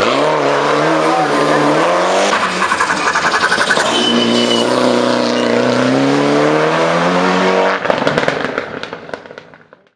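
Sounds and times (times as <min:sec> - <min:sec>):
turbocharged car engine revving: 0:00.0 - 0:08.6.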